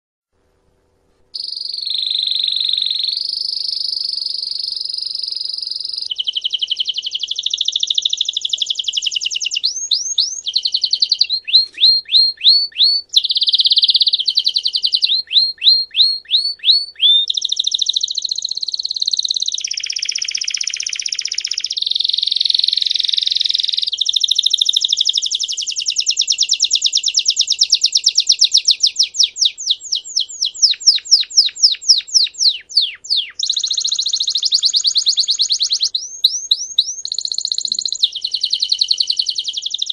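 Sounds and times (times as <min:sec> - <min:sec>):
canary singing trills: 0:01.4 - 0:39.9.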